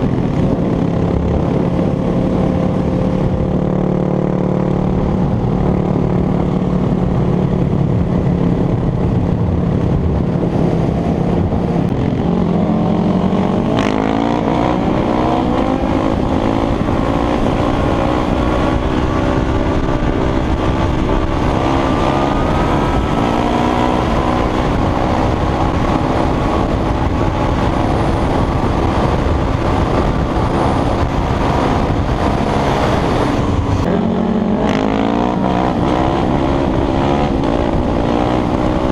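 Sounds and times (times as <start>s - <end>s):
constant rushing noise: 0.0s - 38.9s
motorcycle engine revving: 0.0s - 38.9s.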